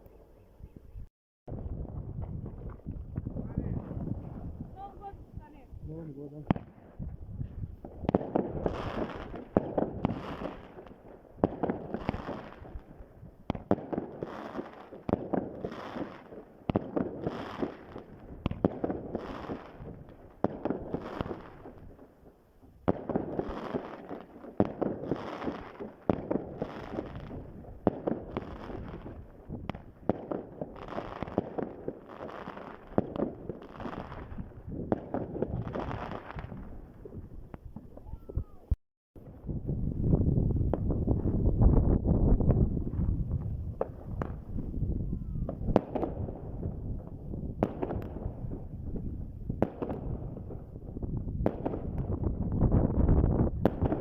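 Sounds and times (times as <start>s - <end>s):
fireworks bangs with crackle: 1.5s - 54.0s.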